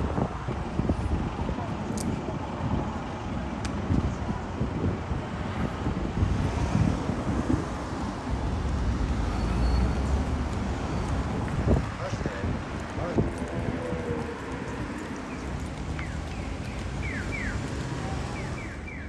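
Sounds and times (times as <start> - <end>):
passing vehicles hum: 0.0 - 19.0.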